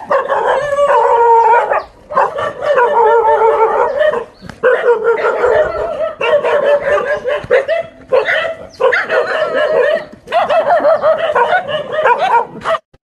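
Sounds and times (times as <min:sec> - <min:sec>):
dog barking rapidly: 0:00.0 - 0:12.8.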